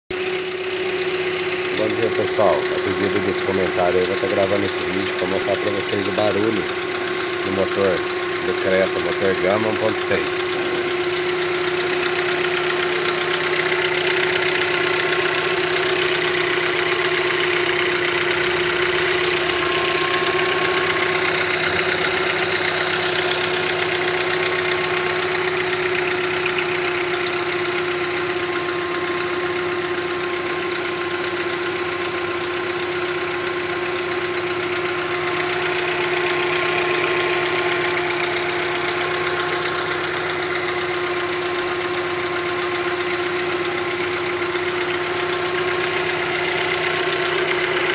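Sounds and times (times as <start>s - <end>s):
car engine idling: 0.1s - 47.9s
fast engine ticking: 0.1s - 47.9s.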